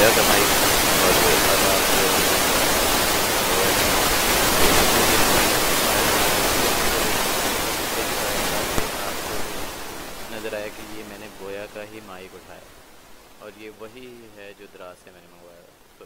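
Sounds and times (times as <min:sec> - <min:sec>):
microphone hiss: 0:00.0 - 0:16.0.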